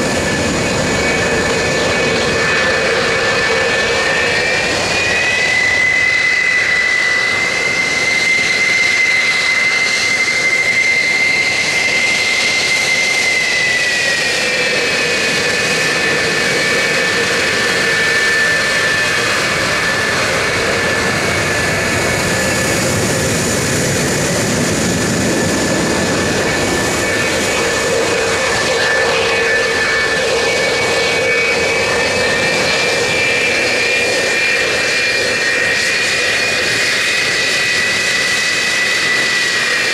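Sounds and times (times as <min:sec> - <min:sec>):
jet engines idling with high whine: 0:00.0 - 0:39.9.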